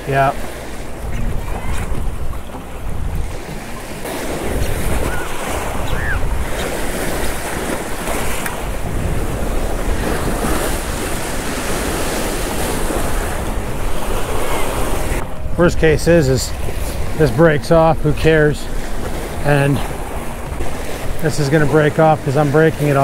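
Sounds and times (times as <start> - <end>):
wind buffeting microphone: 0.0 - 21.3
waves splashing against shore: 0.0 - 23.0.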